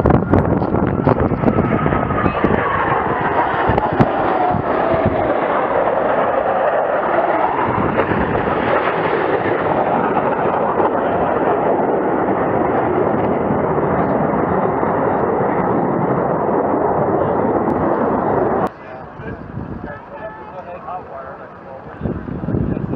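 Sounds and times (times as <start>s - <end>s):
jet aircraft roaring overhead: 0.0s - 22.9s.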